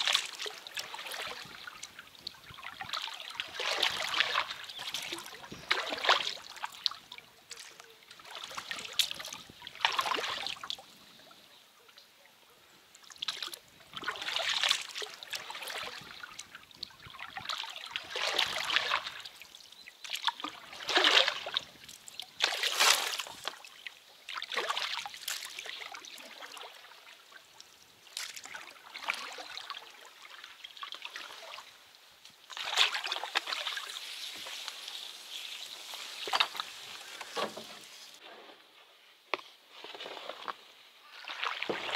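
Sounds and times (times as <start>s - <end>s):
oars splashing in water: 0.0s - 11.0s, 13.0s - 27.3s, 28.0s - 38.2s, 39.8s - 41.9s
water trickling off oars: 0.0s - 38.2s, 39.7s - 41.9s.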